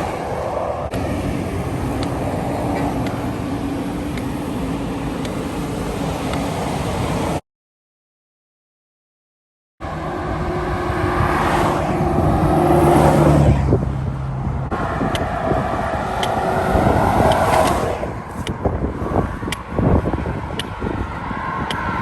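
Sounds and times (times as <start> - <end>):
highway traffic passing: 0.0 - 7.4, 9.8 - 22.0.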